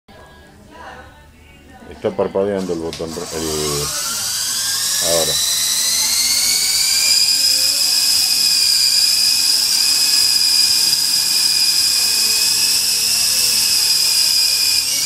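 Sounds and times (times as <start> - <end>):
toy helicopter rotors whining: 2.6 - 15.0.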